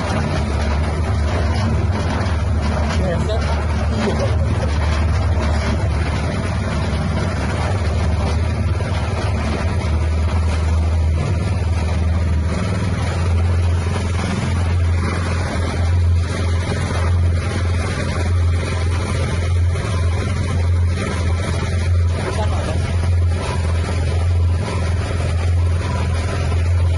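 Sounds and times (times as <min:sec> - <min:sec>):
feed mixer motor humming: 0:00.0 - 0:26.9
rushing mechanical noise: 0:00.0 - 0:26.9.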